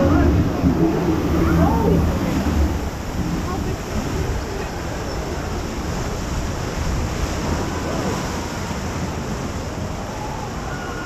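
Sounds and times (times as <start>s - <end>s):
whitewater rushing and splashing: 0.0s - 11.0s
wind buffeting microphone: 0.0s - 11.0s.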